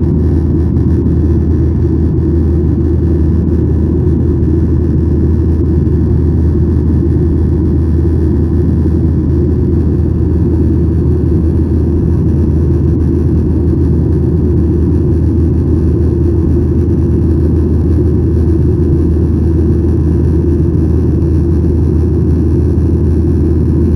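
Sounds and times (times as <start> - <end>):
jet engine cabin rumble: 0.0 - 23.9.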